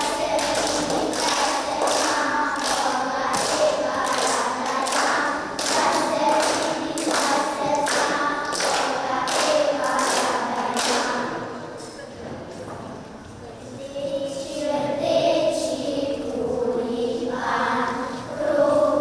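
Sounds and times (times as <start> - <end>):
children singing in unison: 0.0 - 11.6, 13.8 - 19.0.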